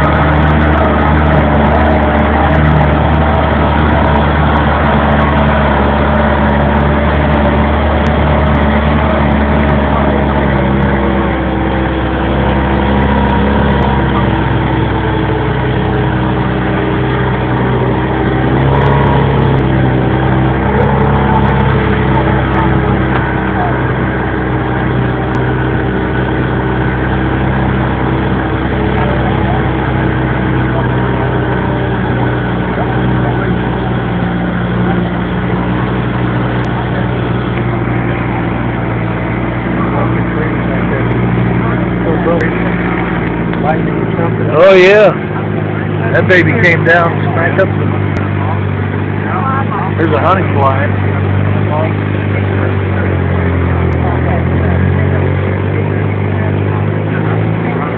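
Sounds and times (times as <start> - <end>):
jeep engine running: 0.0 - 57.9.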